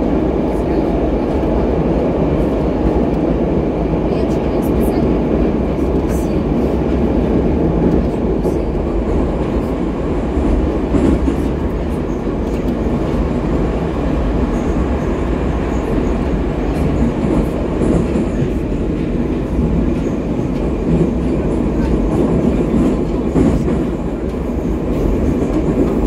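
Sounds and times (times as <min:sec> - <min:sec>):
metro train rumble: 0:00.0 - 0:26.0.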